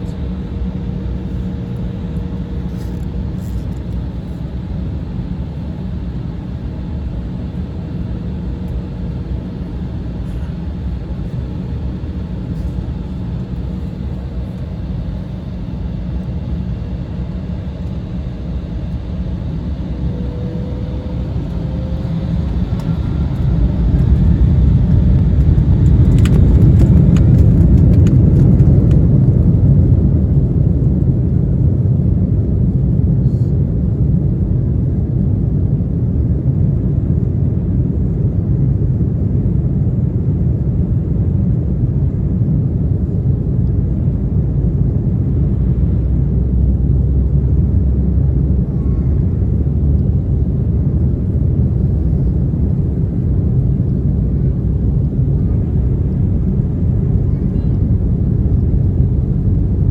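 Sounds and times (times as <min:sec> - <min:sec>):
jet engines rumbling: 0:00.0 - 0:35.1, 0:36.3 - 0:59.9
jet engine whine: 0:00.0 - 0:59.9.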